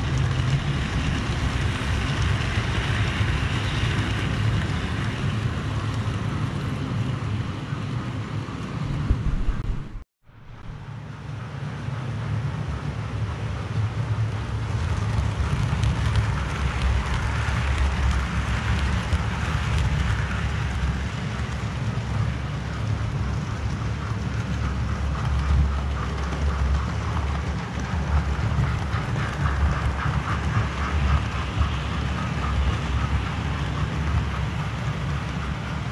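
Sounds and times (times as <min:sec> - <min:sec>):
train passing with clicks: 0:00.0 - 0:35.9
wheels rattling on rails: 0:00.0 - 0:35.9.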